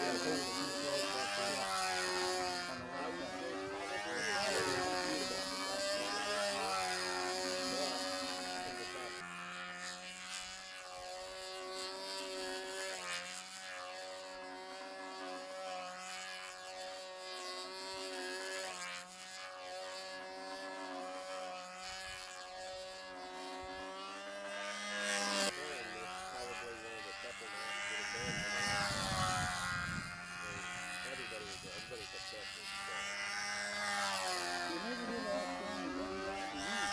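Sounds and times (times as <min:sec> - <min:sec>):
model airplane motor droning: 0:00.0 - 0:36.9.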